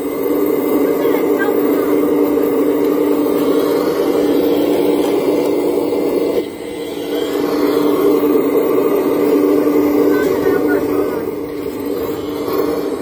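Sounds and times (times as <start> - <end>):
toy excavator motor hum: 0.0 - 13.0.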